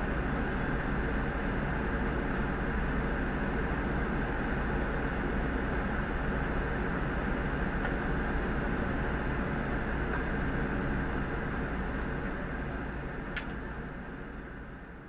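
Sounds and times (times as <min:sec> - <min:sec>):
fire truck engine droning: 0:00.0 - 0:15.0.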